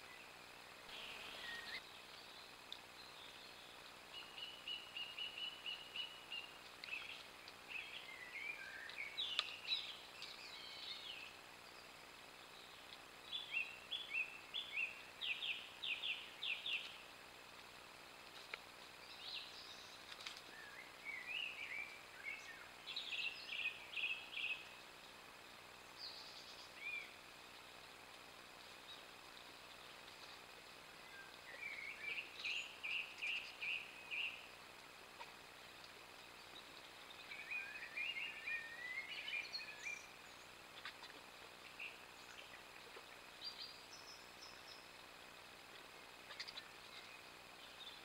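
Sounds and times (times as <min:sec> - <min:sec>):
faint hiss: 0:00.0 - 0:48.0
songbird singing: 0:00.0 - 0:48.0.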